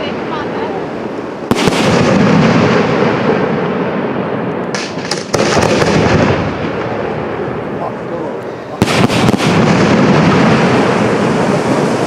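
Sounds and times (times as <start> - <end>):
fireworks bangs with echo: 0.0 - 12.0
fireworks crackling: 0.0 - 12.0.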